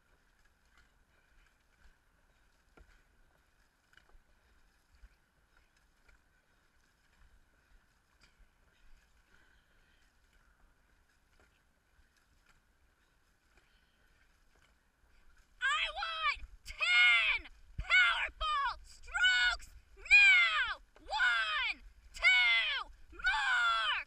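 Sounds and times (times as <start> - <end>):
muffled boat paddling: 0.0 - 24.0.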